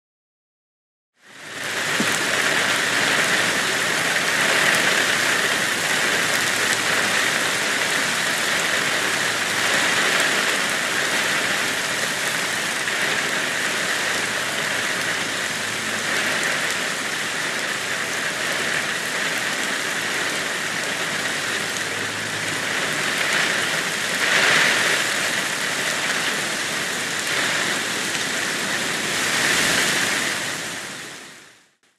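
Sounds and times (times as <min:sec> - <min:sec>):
heavy rain on pavement: 0:01.2 - 0:31.9.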